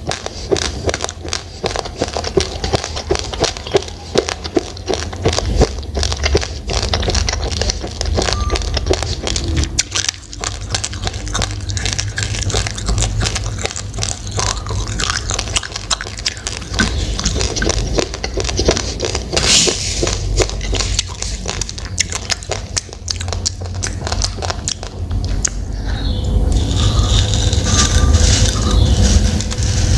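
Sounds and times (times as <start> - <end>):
chewing raw rice crunches: 0.0 - 25.7, 26.5 - 29.9
low rumble: 0.0 - 29.9.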